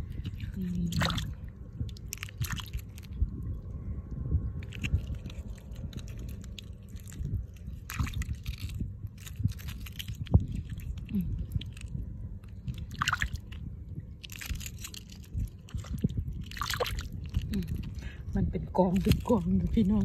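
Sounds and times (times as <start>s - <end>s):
fingers squelching in wet mud: 0.0s - 3.3s, 4.6s - 18.1s.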